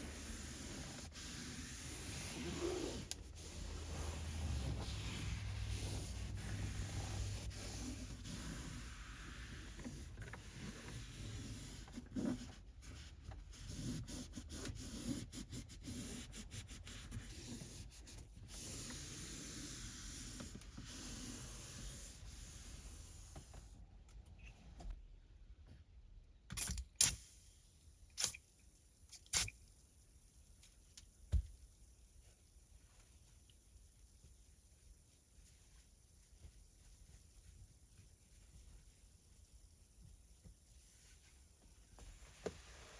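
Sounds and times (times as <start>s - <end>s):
cloth wiping car interior: 0.0s - 23.9s, 32.1s - 42.9s.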